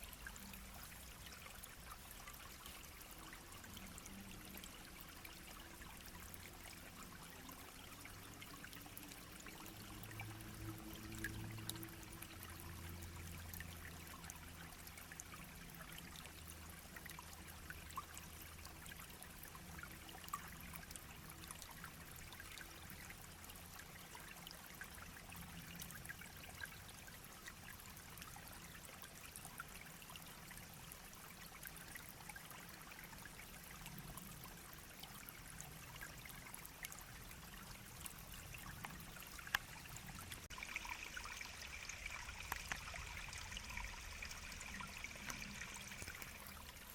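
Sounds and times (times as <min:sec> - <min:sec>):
brook babbling over stones: 0:00.0 - 0:46.9
water splashes and drips: 0:00.0 - 0:46.9.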